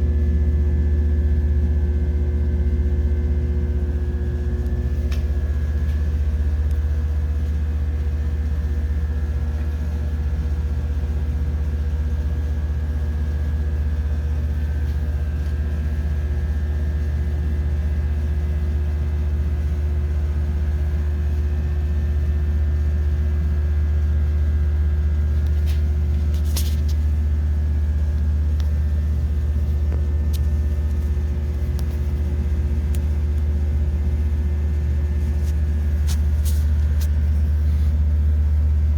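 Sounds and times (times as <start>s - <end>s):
low machinery hum: 0.0s - 38.9s.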